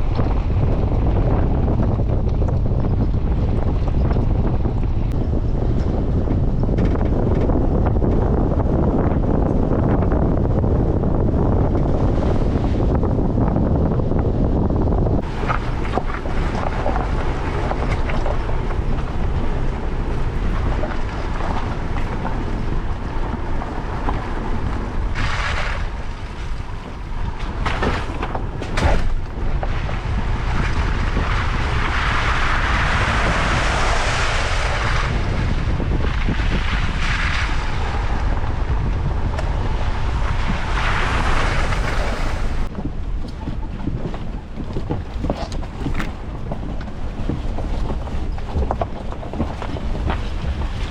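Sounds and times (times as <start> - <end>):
engine and tyres rumbling: 0.0 - 50.9
wind buffeting microphone: 0.0 - 50.9.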